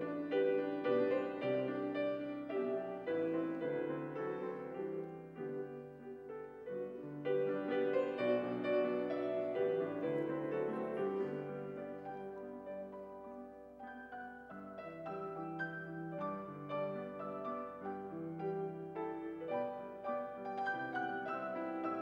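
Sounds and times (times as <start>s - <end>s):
grand piano chords: 0.0s - 22.0s.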